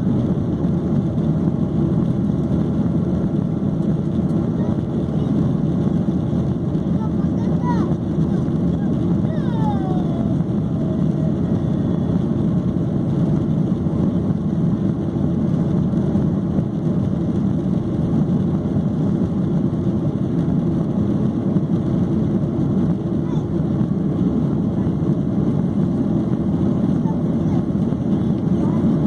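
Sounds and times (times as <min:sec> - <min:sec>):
jet engine drone in cabin: 0:00.0 - 0:29.0.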